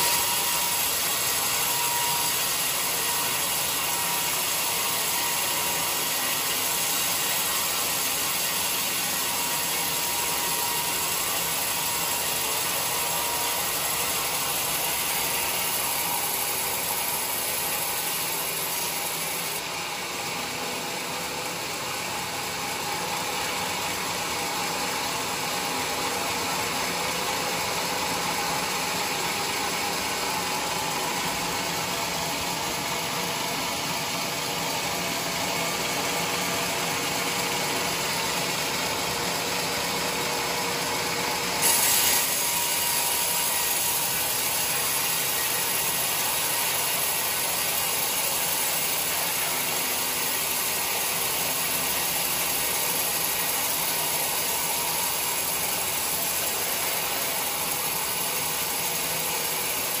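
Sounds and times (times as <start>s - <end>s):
band saw cutting wood: 0.0s - 60.0s.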